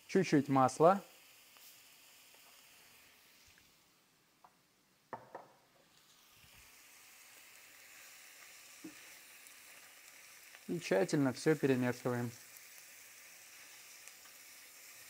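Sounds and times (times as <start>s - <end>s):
food frying in a pan: 0.0s - 4.2s, 5.1s - 15.0s.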